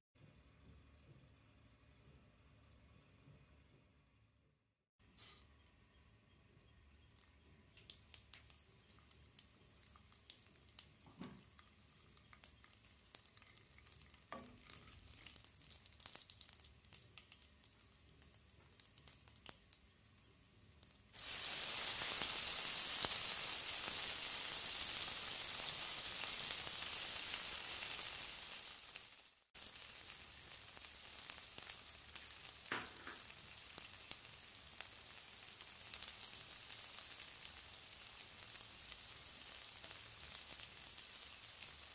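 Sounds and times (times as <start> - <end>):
mustard seeds crackling in oil: 6.7 - 41.9
onion frying sizzle: 7.0 - 41.9
loud sizzle in hot oil: 7.2 - 41.9.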